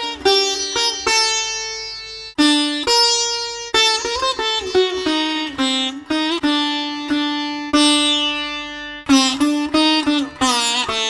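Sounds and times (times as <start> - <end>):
plucked string instrument melody: 0.0 - 11.0.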